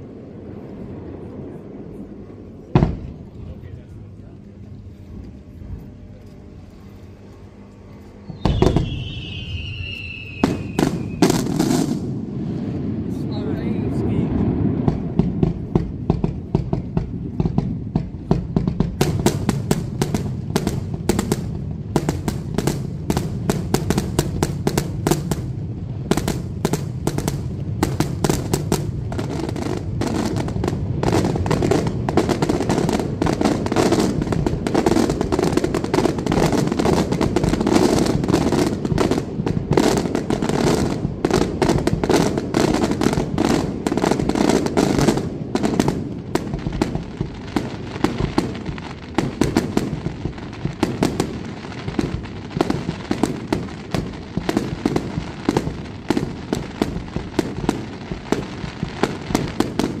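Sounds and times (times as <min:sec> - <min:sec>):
fireworks cracks and bangs: 0:00.0 - 0:05.5, 0:08.3 - 1:00.0
steady rumble: 0:00.0 - 0:59.6.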